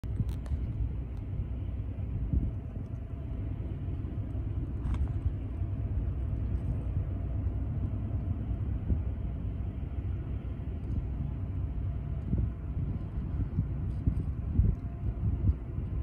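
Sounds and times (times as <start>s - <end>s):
distant engine rumble: 0.0s - 16.0s
faint steady hum: 0.0s - 16.0s.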